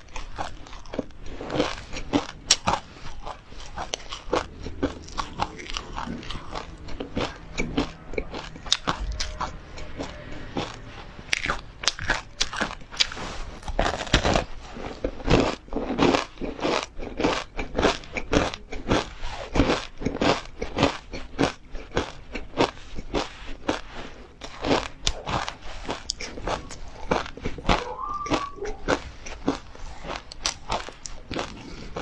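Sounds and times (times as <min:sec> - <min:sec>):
crunchy bites and chewing: 0:00.0 - 0:32.0.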